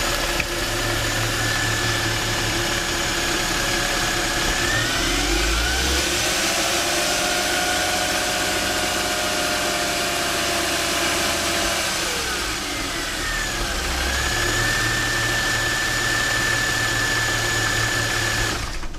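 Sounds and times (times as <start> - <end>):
engine running with whine: 0.0 - 18.9.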